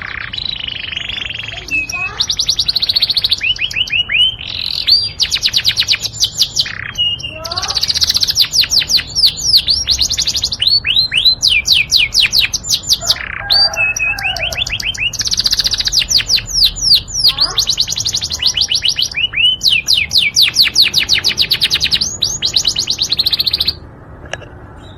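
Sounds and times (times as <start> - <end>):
canary singing high trills: 0.0 - 24.0.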